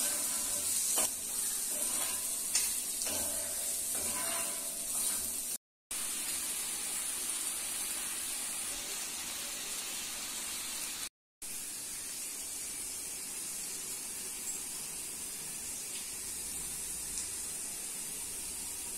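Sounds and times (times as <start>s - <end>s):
potatoes sizzling in oil: 0.0s - 18.9s.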